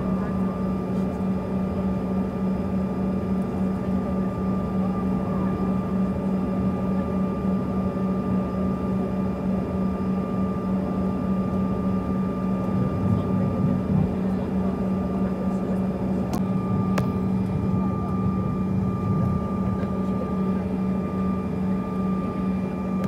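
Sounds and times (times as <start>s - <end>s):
high engine whine: 0.0s - 23.0s
jet engines low hum: 0.0s - 23.0s.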